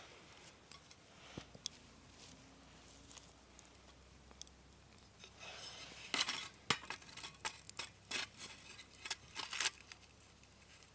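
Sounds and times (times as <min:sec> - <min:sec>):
soft hiss: 0:00.0 - 0:10.9
embers cracking: 0:00.3 - 0:10.9.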